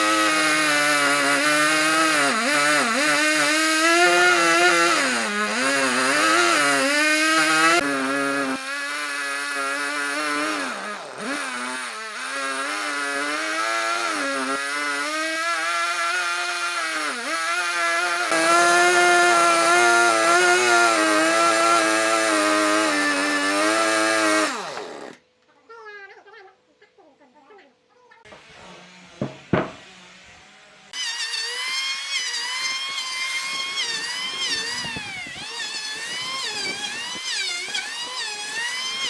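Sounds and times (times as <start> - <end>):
chainsaw cutting wood: 0.0 - 25.2, 28.3 - 39.0.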